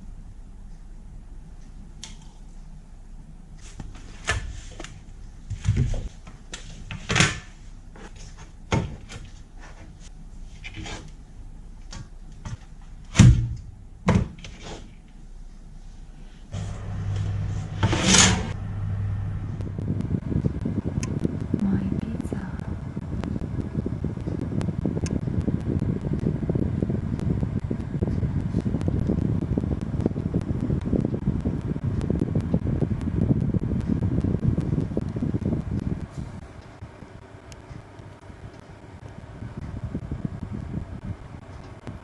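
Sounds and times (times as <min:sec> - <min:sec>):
fan humming: 0:00.0 - 0:42.0.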